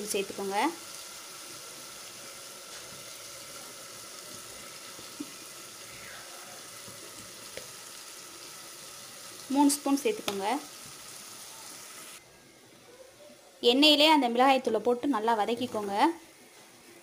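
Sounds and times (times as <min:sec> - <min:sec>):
masala sizzling in oil: 0:00.0 - 0:12.8, 0:13.4 - 0:17.0.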